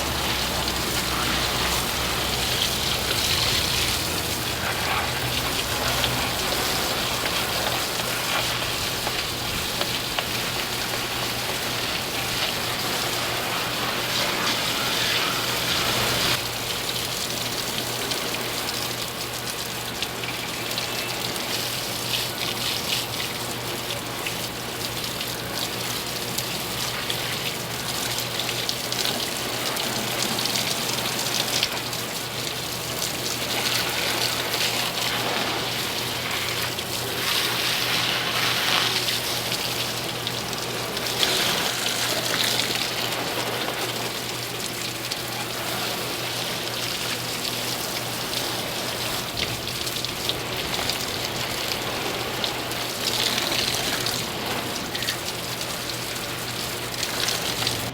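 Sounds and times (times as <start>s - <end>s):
water spraying: 0.0s - 57.9s.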